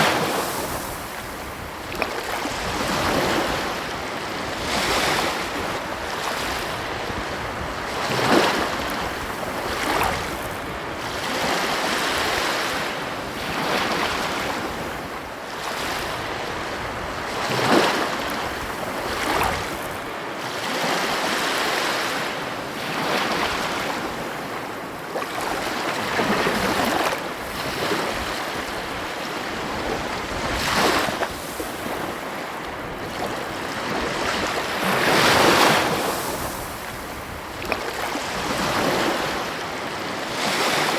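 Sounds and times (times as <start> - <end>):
ocean waves breaking on a beach: 0.0 - 40.9.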